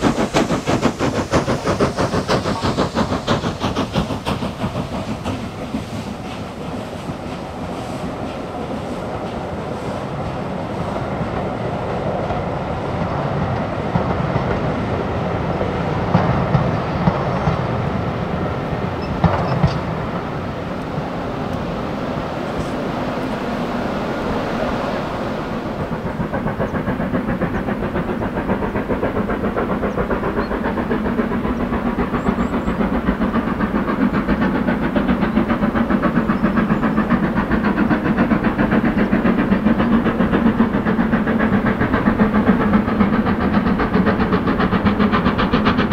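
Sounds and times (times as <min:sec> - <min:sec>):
steam locomotive exhaust beats: 0:00.0 - 0:45.9
train wheel clatter: 0:00.0 - 0:45.9.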